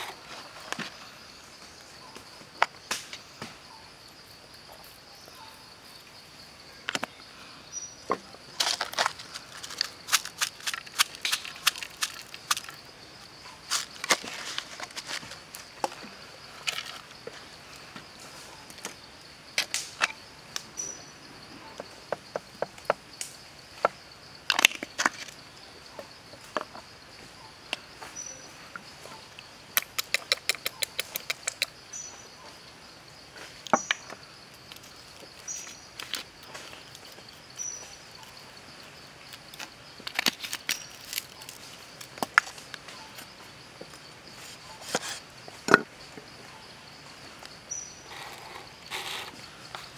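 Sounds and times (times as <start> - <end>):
high insect drone: 0.0 - 49.9.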